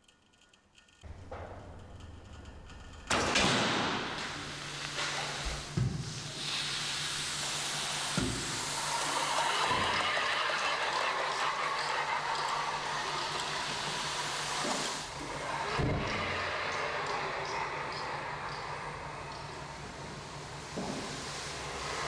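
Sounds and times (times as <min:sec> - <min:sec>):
steady hissing rush: 0:03.6 - 0:22.0.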